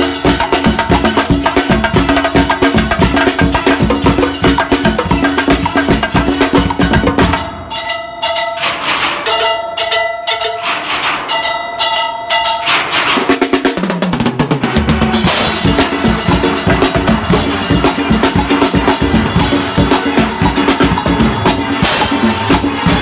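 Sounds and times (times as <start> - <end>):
ringing pitched notes: 0.0 - 13.4, 15.2 - 23.0
congas struck with sticks: 0.0 - 23.0
drum kit playing: 0.0 - 23.0.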